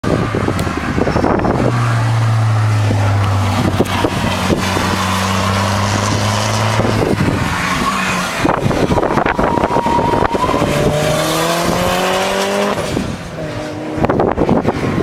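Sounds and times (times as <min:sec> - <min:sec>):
car engine droning: 0:00.0 - 0:15.0
wind buffeting microphone: 0:00.0 - 0:15.0.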